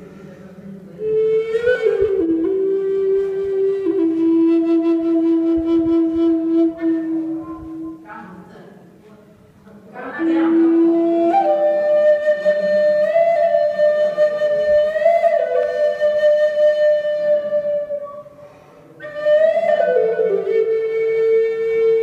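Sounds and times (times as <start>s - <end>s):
flute playing slow melody: 1.0s - 8.0s, 10.3s - 18.4s, 19.0s - 22.0s.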